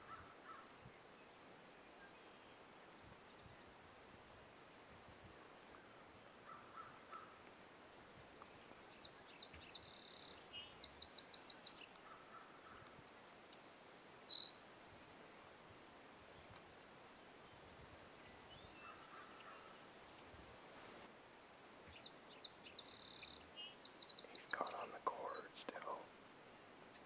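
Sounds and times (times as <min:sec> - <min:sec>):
quiet outdoor background noise: 0:00.0 - 0:27.0
songbird chirps and trills: 0:00.0 - 0:27.0.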